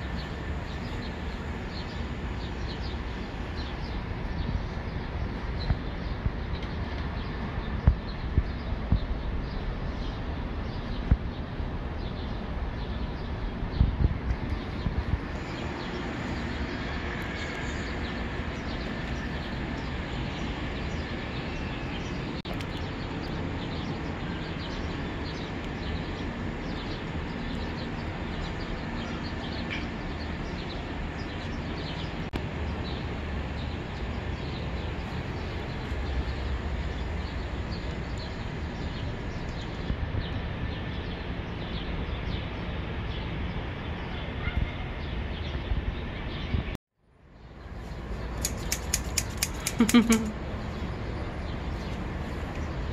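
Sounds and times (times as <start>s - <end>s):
distant traffic: 0.0s - 52.9s
wind: 0.0s - 52.9s.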